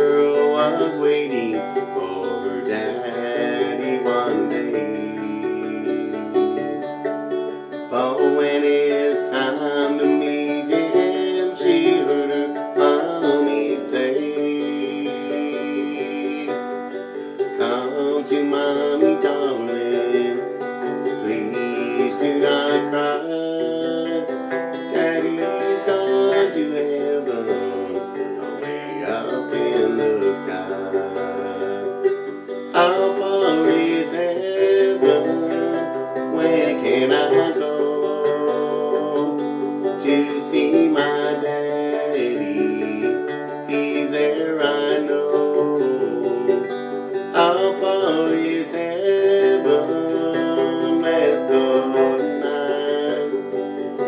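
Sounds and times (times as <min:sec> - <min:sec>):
man singing: 0:00.0 - 0:54.0
twangy resonator guitar: 0:00.0 - 0:54.0.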